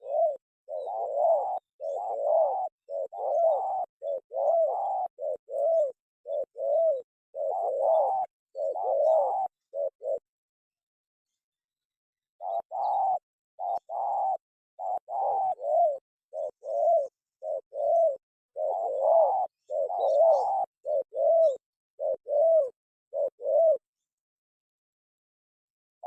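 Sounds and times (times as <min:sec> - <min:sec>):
dove cooing: 0:00.0 - 0:10.3, 0:12.4 - 0:24.0.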